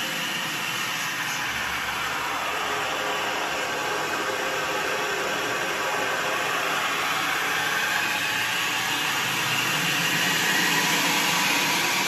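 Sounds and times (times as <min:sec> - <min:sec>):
pressurised water rushing through valve: 0:00.0 - 0:12.0.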